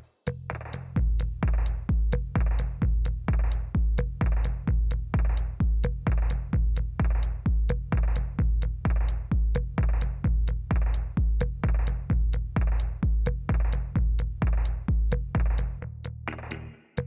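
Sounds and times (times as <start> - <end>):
hi-hat ticks: 0.0 - 16.7
heavy kick drum: 0.6 - 16.8.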